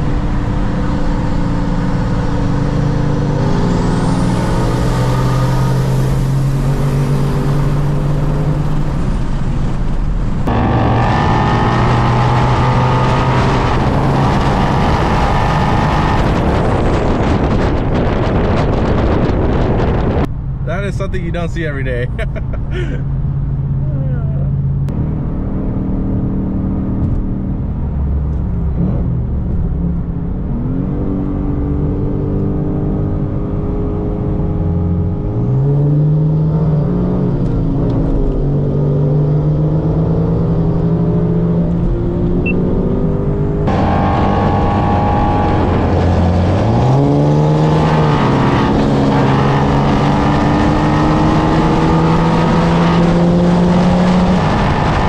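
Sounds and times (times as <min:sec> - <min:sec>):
car engine at full throttle: 0:00.0 - 0:55.0
wind and road noise: 0:00.0 - 0:55.0.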